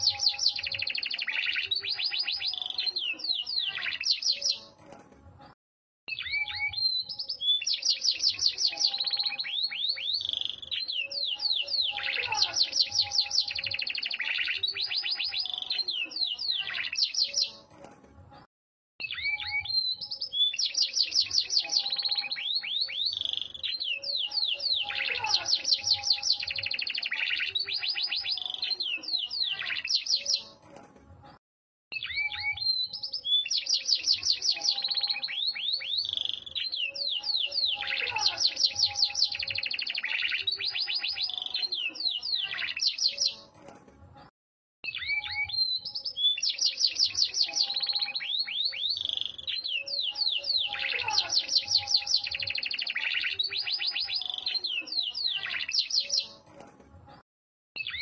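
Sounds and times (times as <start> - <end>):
canary singing trills: 0.0 - 4.8, 6.1 - 17.7, 19.0 - 30.6, 31.9 - 43.5, 44.8 - 56.4, 57.8 - 58.0.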